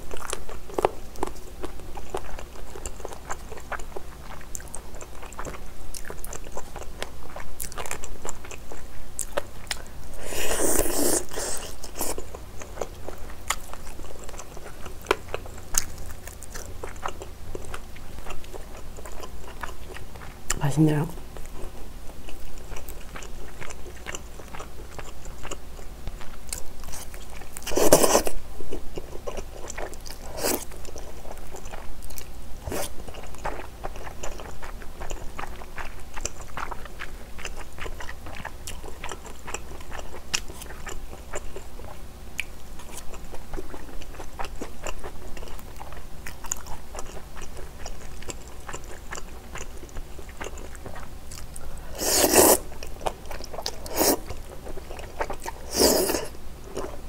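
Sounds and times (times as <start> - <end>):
chewing: 0.0 - 20.6, 21.4 - 57.0.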